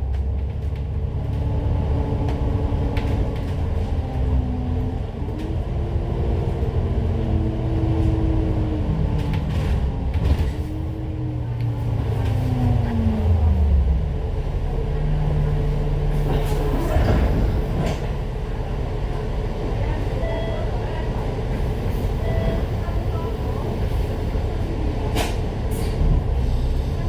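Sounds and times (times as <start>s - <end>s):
bus engine rumble and whine: 0.0s - 27.0s.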